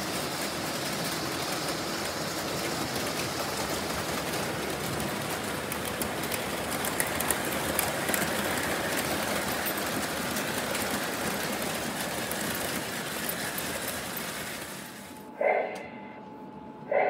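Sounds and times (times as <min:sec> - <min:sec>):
model train wheels rumbling: 0:00.0 - 0:15.2.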